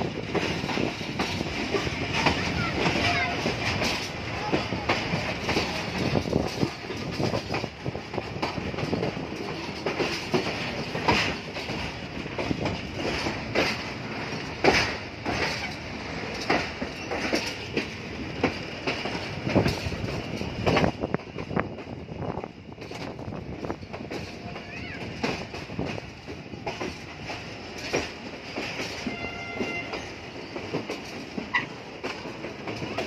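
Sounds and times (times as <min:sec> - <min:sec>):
train wheels rumbling on rails: 0:00.0 - 0:33.0
wheels clacking over rail joints: 0:00.0 - 0:33.0.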